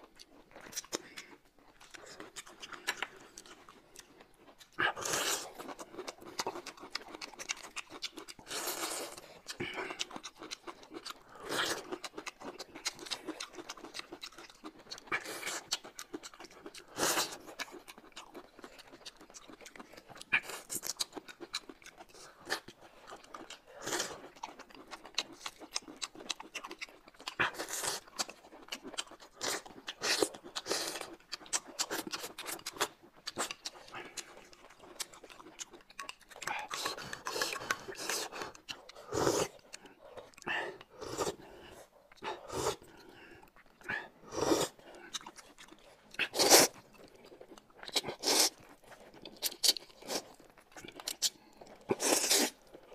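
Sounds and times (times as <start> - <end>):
people chewing and biting: 0.0 - 52.9.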